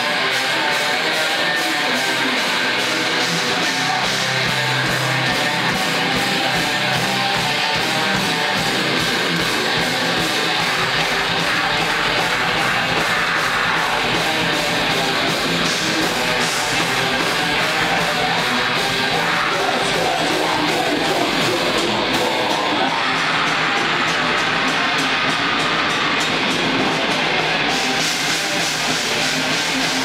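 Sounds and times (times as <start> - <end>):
heavy metal band playing: 0.0 - 30.0.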